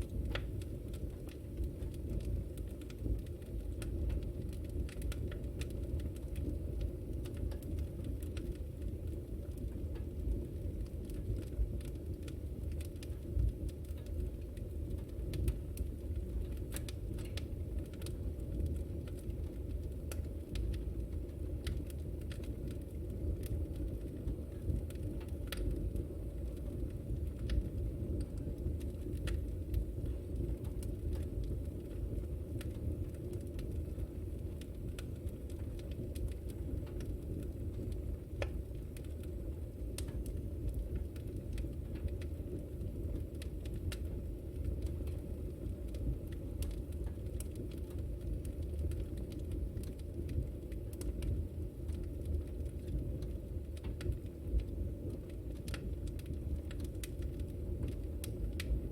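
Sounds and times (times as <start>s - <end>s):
fire crackles and pops: 0.0s - 58.9s
fire rumbling: 0.0s - 58.9s.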